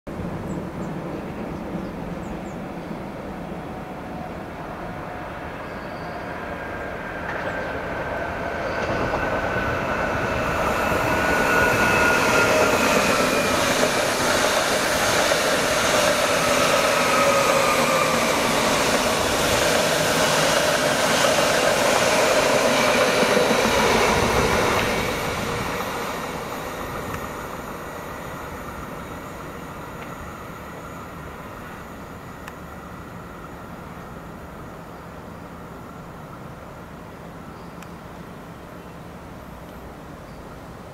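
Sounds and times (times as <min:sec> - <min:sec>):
train passing: 0:00.1 - 0:37.5.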